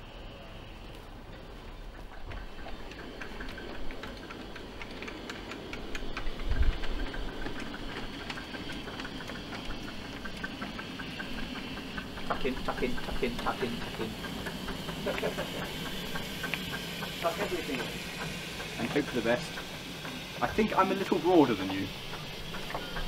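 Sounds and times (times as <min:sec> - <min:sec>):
miniature steam train running on rails: 0:00.0 - 0:23.0
wheels clicking on rails: 0:00.0 - 0:23.0.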